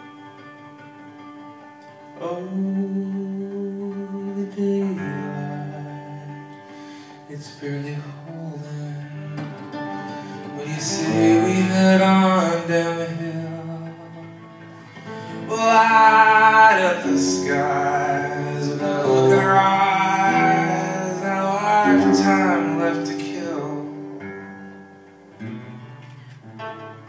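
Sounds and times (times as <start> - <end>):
acoustic guitar: 0.0 - 27.0
man singing: 2.2 - 24.2.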